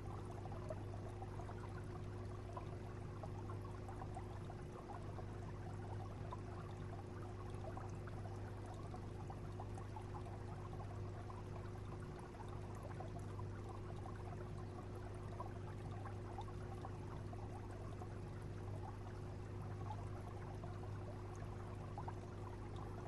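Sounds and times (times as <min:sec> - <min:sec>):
water trickling and splashing: 0:00.1 - 0:23.0.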